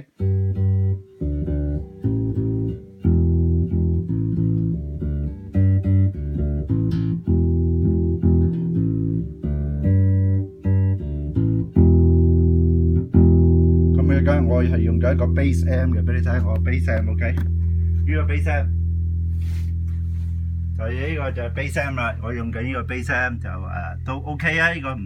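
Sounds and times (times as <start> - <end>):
electric bass guitar notes: 0.0 - 25.0.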